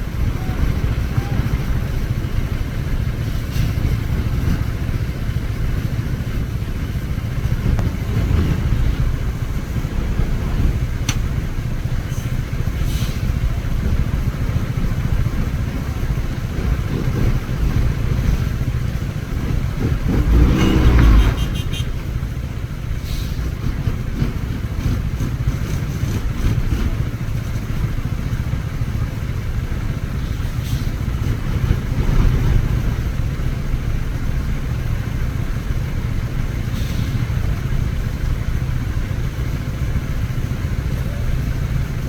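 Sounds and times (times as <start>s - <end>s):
truck engine running: 0.0s - 42.0s.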